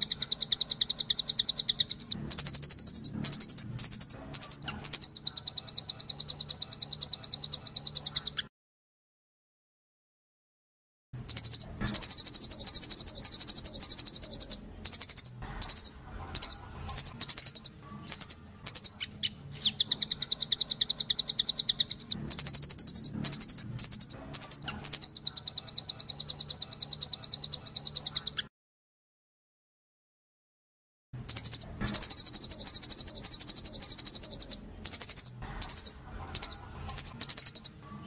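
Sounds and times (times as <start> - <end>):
bird rattling trills: 0.0 - 8.4, 11.3 - 28.4, 31.3 - 37.7.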